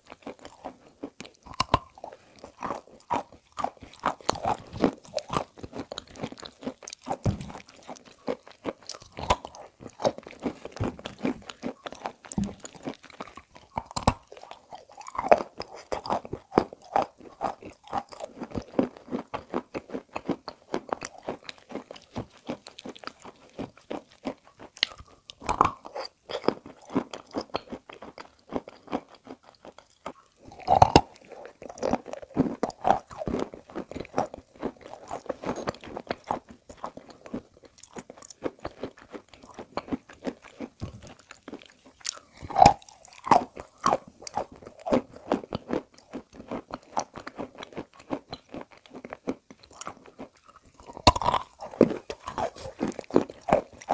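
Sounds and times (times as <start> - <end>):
crunchy chewing: 0.0 - 53.9
wet mouth sounds: 0.0 - 53.9.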